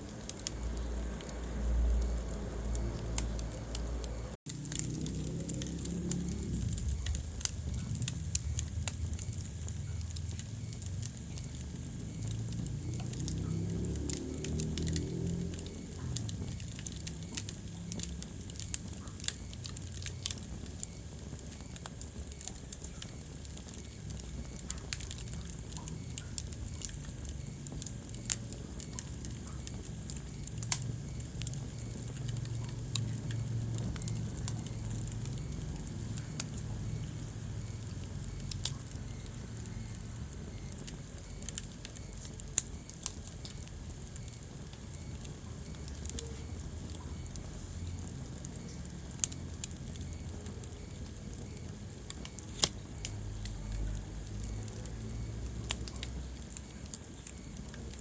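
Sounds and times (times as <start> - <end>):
low rumble of flame: 0.0 - 58.0
wood fire crackling and popping: 0.0 - 58.0.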